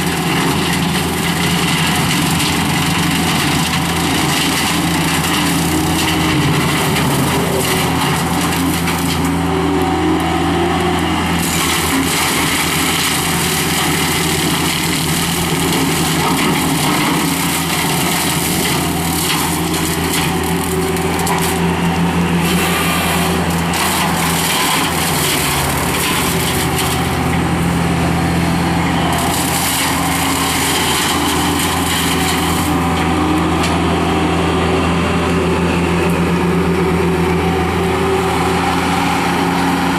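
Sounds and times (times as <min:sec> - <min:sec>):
hydraulic brush cutter: 0:00.0 - 0:39.9
loader engine running: 0:00.0 - 0:39.9.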